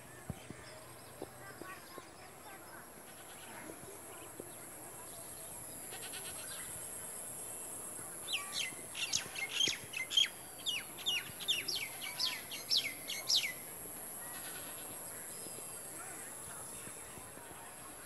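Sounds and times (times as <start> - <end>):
steady high-pitched hiss: 0.0 - 18.0.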